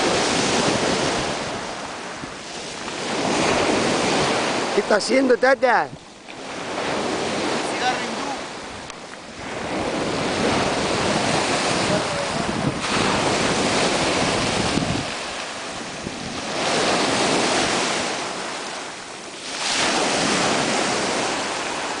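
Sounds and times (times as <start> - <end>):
waves washing up pebble shore: 0.0 - 22.0.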